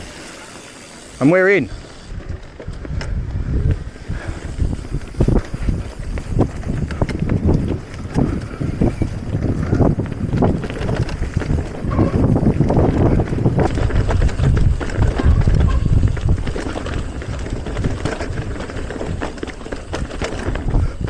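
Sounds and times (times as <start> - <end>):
bike knocking and rattling: 0.0 - 21.0
tyres rumbling over dirt: 0.0 - 21.0
wind buffeting microphone: 1.7 - 21.0.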